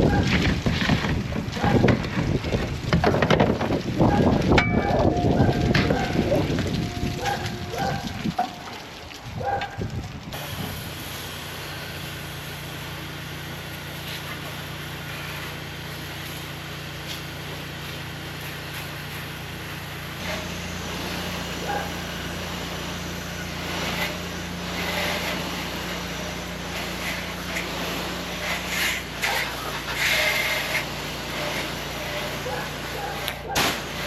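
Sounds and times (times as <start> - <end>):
pressure washer engine running: 3.8 - 9.0, 10.4 - 34.0.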